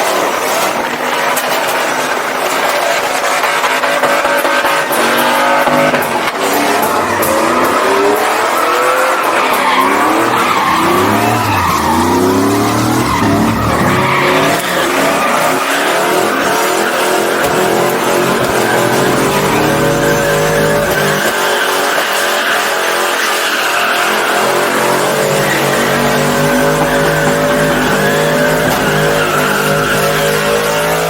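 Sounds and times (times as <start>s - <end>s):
spinning tires squealing: 0.0s - 31.0s
truck engine revving: 0.0s - 31.0s.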